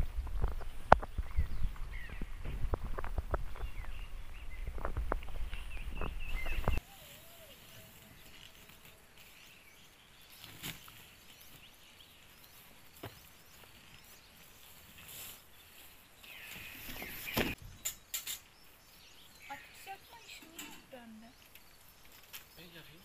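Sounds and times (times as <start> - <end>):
faint bird chirps: 3.5 - 23.0.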